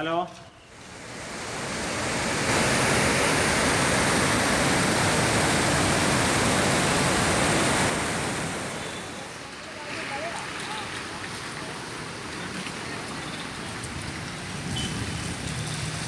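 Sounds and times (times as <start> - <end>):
floodwater rushing: 0.7 - 16.0.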